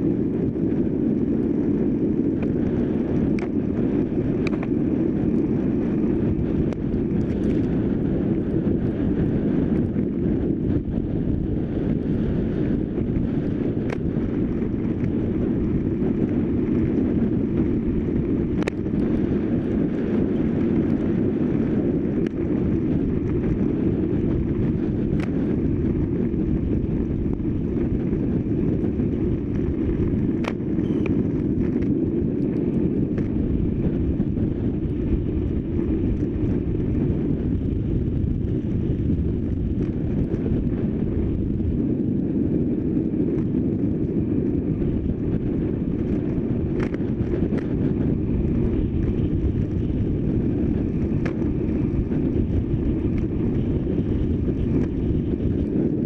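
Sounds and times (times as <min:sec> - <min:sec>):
bike tyres rumbling on asphalt: 0:00.0 - 0:56.0
wind rushing over microphone: 0:00.0 - 0:56.0.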